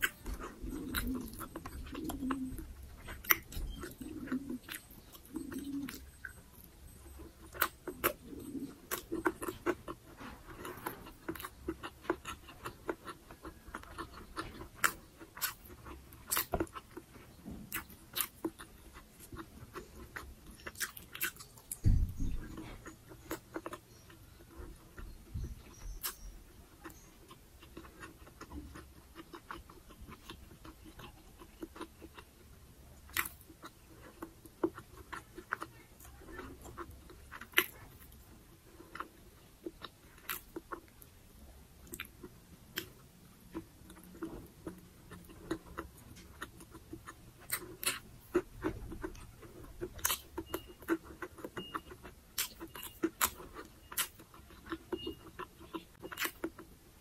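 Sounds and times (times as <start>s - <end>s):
close chewing of soft food: 0.0s - 57.0s.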